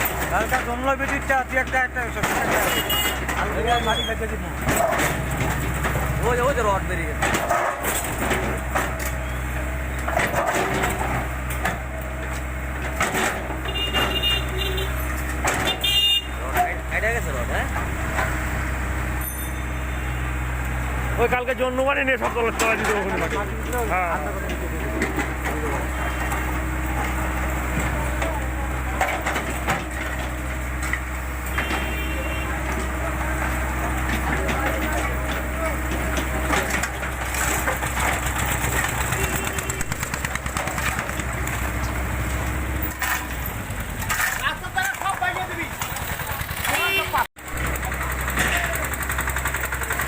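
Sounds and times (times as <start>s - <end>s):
bucket crunching road material: 0.0s - 18.4s, 21.1s - 50.0s
diesel engine running: 0.0s - 50.0s.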